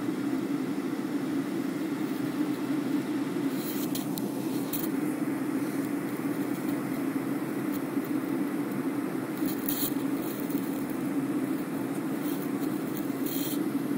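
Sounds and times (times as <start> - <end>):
airliner cabin engine roar: 0.0 - 13.9.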